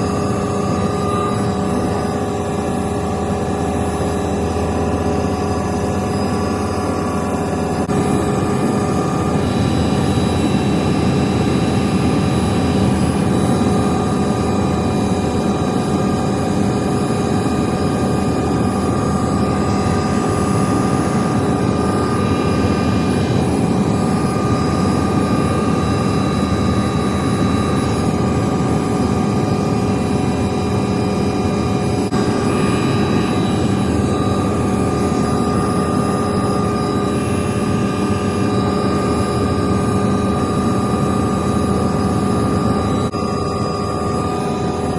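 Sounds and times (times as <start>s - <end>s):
helicopter rotor rumble: 0.0s - 44.9s
helicopter turbine whine: 0.0s - 44.9s.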